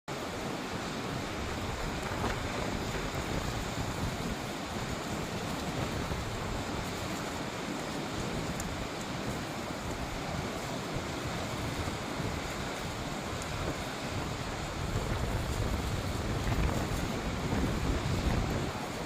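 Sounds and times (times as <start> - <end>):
wind buffeting microphone: 0.4 - 19.0.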